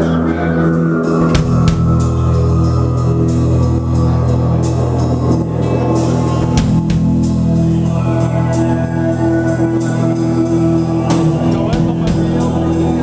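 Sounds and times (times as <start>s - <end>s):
bass guitar: 0.0s - 13.0s
electric guitar: 0.0s - 13.0s
keyboards: 0.0s - 13.0s
drum kit with cymbal hits: 0.1s - 13.0s.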